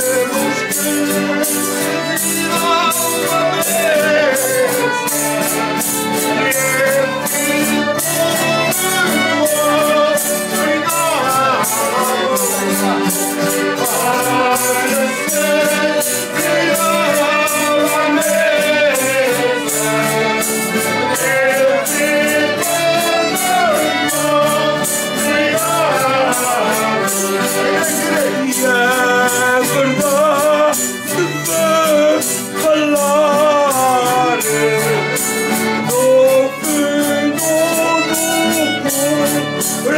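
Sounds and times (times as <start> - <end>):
fast struck percussion beat: 0.0 - 39.9
group singing folk song: 0.0 - 39.9
instrumental accompaniment: 0.0 - 39.9.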